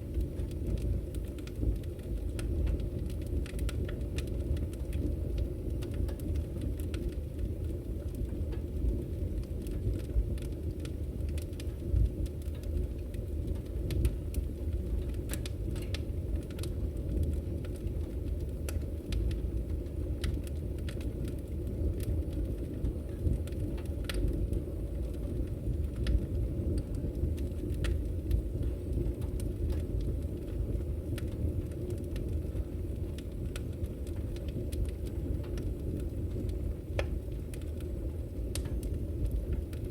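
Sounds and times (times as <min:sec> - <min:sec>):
firewood crackling and popping: 0:00.0 - 0:39.9
wood fire rumbling: 0:00.0 - 0:39.9.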